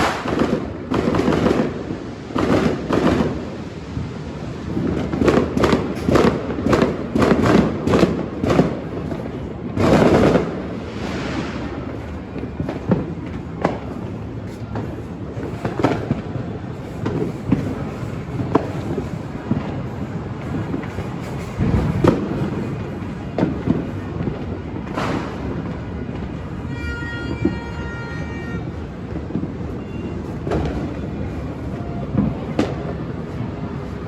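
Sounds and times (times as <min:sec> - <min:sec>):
fireworks and firecrackers banging: 0:00.0 - 0:34.0.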